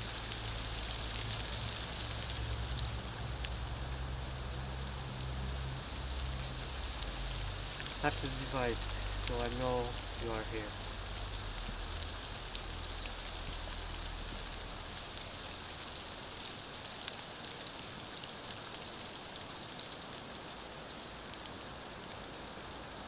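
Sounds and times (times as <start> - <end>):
rain and snow falling: 0.0 - 23.0.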